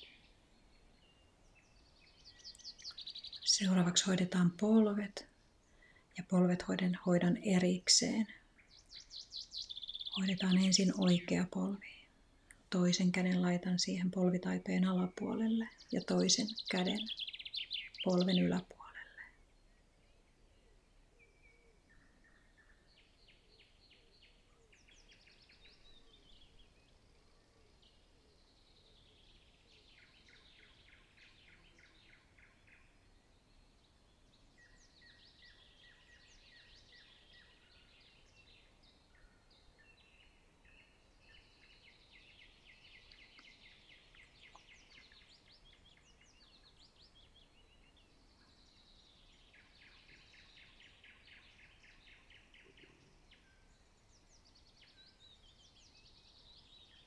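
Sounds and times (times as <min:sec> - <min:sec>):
faint birdsong: 0:00.0 - 0:57.0.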